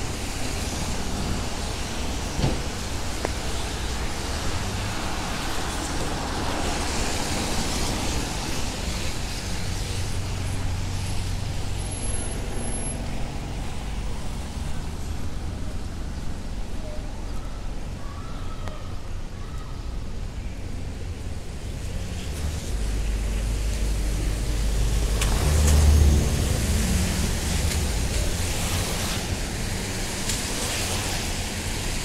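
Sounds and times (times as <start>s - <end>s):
traffic rumble: 0.0s - 32.0s
tyres hissing on wet pavement: 0.0s - 32.0s.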